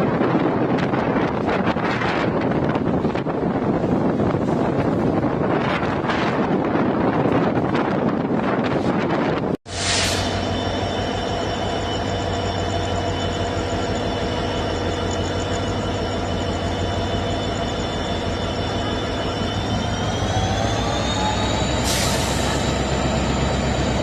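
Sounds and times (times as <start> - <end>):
diesel locomotive hum: 0.0 - 24.0
train rumbling on track: 0.0 - 24.0.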